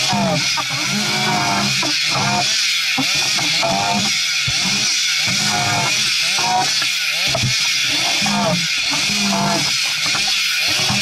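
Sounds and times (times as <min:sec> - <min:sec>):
chainsaw cutting into tree: 0:00.0 - 0:11.0.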